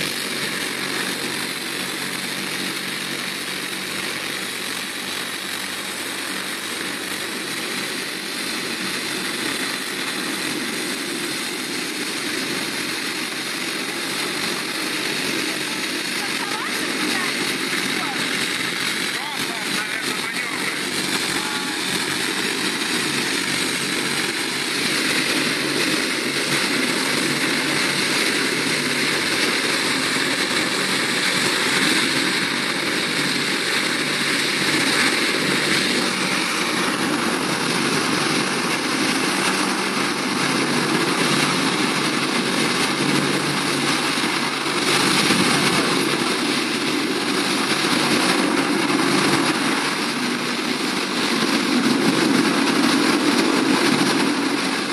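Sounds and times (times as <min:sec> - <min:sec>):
hovercraft rushing drone: 0:00.0 - 0:54.9.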